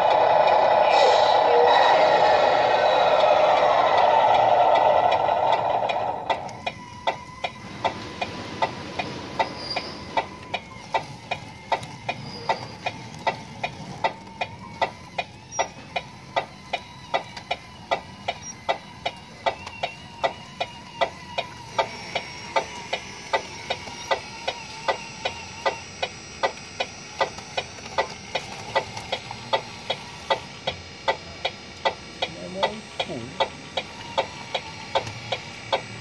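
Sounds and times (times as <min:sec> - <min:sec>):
thin electric motor whine: 0:00.0 - 0:30.9.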